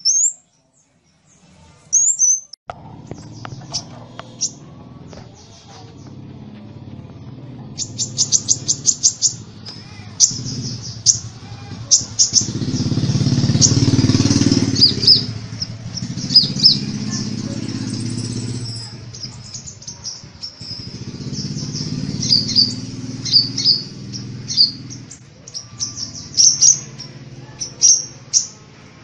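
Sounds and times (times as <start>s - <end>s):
bird chirps and trills: 0.0s - 28.7s
low engine-like hum: 2.7s - 29.0s.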